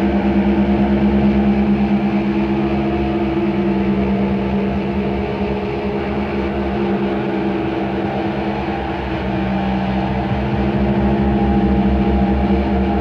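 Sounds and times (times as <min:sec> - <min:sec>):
electronic drone hum: 0:00.0 - 0:13.0
rapid low throb: 0:00.0 - 0:13.0.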